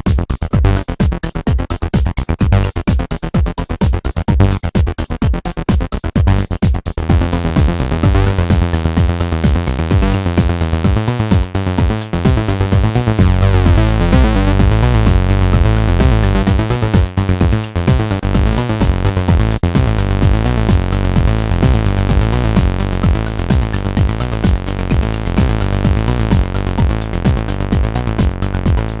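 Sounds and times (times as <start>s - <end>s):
acid synth bassline: 0.0s - 29.0s
drum machine beat: 0.0s - 29.0s.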